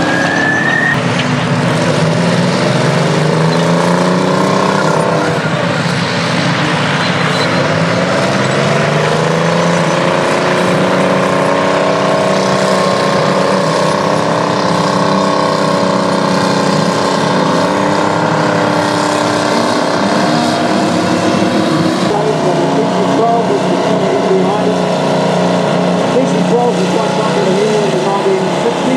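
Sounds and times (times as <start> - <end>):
bulldozer diesel engines under load: 0.0 - 28.9.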